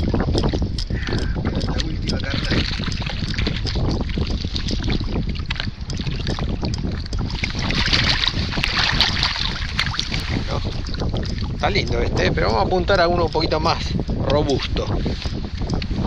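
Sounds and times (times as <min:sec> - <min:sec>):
fish splashing in water: 0:00.0 - 0:14.1
wind buffeting microphone: 0:00.0 - 0:16.0.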